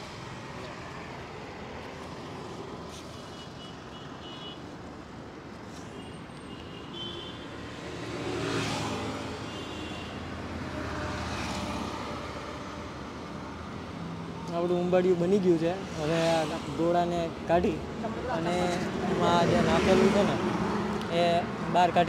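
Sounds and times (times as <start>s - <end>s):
drone of traffic: 0.0s - 22.0s.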